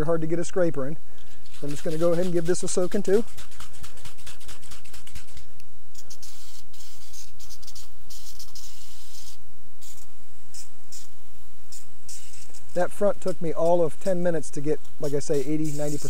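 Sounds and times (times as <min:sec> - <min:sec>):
steady low hum: 0:00.0 - 0:16.0
aerosol can spraying: 0:01.4 - 0:16.0.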